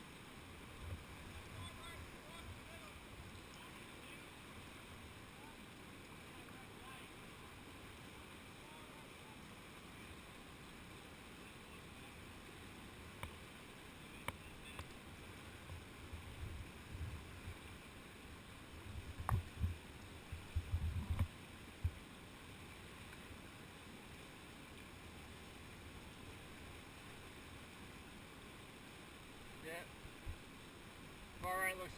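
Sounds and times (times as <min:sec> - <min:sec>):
whitewater rapid rushing: 0:00.0 - 0:31.9.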